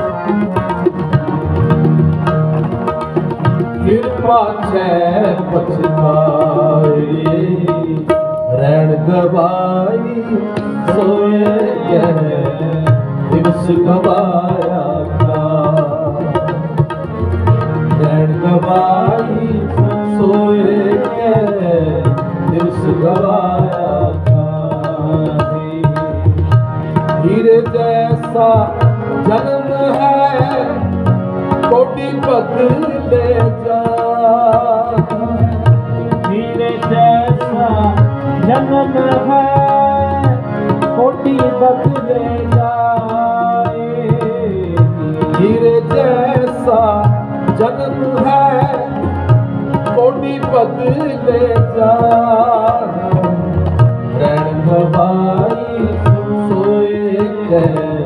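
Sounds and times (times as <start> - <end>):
person singing devotional melody: 0.0 - 58.0
tabla playing rhythm: 0.0 - 58.0.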